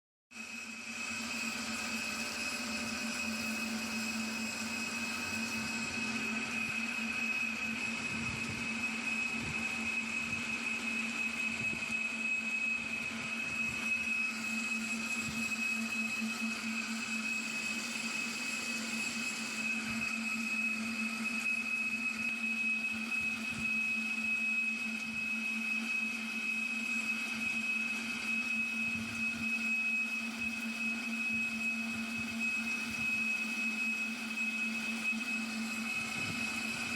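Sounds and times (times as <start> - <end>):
lathe high-pitched whine: 0.3 - 36.9.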